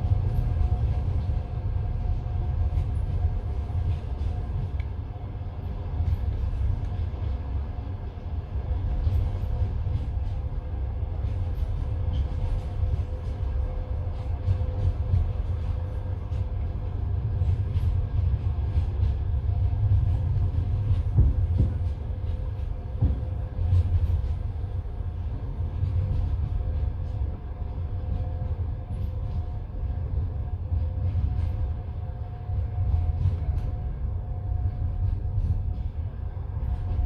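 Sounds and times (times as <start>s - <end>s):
train wheels rumbling: 0.0s - 37.0s.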